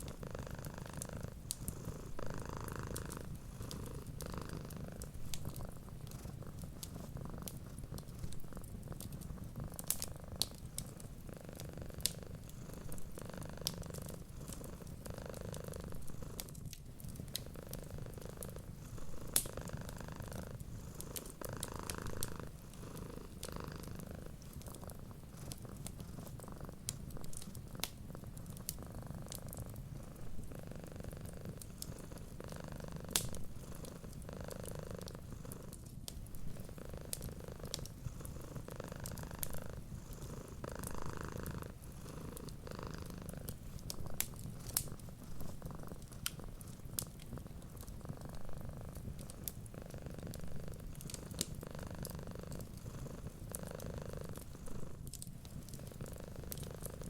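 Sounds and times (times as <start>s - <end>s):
cat purring: 0.0s - 57.0s
wood fire crackling and popping: 0.0s - 57.0s.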